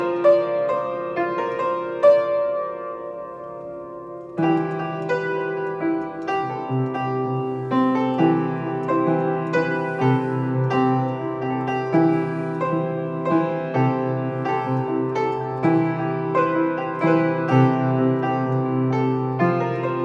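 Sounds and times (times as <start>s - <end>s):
piano-like keyboard melody: 0.0s - 20.0s.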